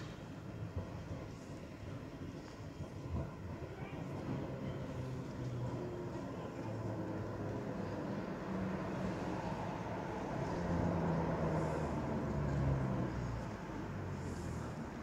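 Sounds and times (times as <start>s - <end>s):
tram running rumble: 0.0s - 15.0s.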